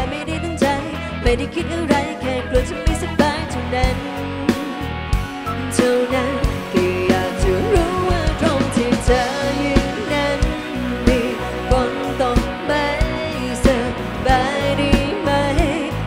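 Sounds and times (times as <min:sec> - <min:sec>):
woman singing: 0:00.0 - 0:04.9, 0:05.5 - 0:16.0
live rock band playing: 0:00.0 - 0:16.0.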